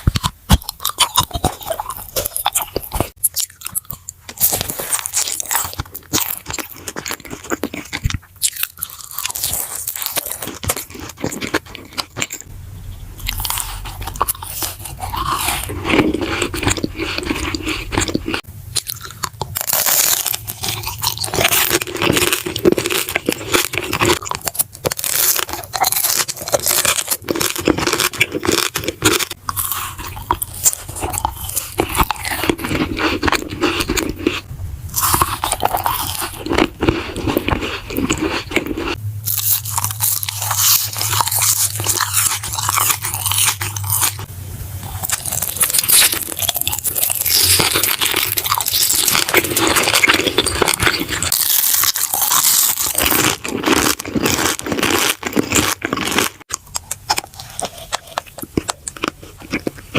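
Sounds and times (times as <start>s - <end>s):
crunchy bites and chewing: 0.0s - 12.5s, 13.1s - 59.9s
low steady hum: 0.0s - 59.9s.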